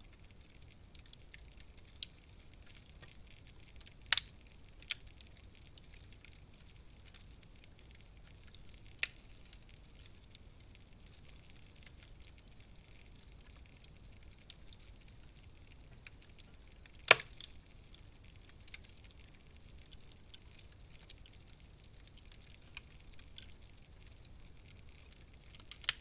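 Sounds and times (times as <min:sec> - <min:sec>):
faint hiss: 0:00.0 - 0:26.0
wood fire crackling: 0:00.0 - 0:26.0.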